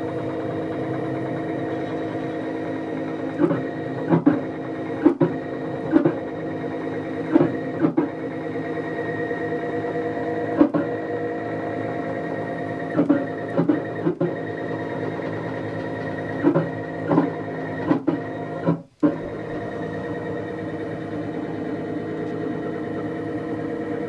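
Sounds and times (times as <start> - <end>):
stepper motors whining: 0.0 - 24.0.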